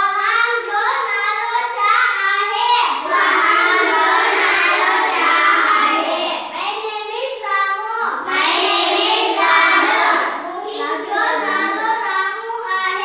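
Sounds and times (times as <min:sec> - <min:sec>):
children chanting in unison: 0:00.0 - 0:13.0.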